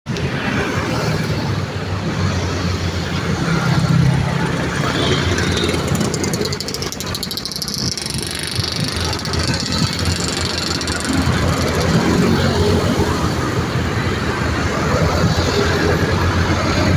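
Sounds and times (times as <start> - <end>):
road traffic passing: 0.1 - 16.9.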